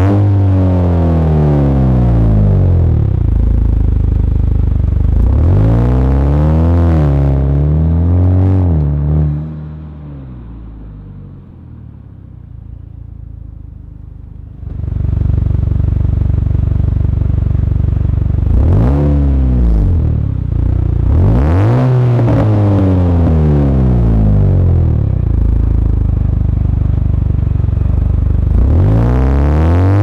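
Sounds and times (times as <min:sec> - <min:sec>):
car engine revving: 0:00.0 - 0:13.6, 0:14.5 - 0:30.0.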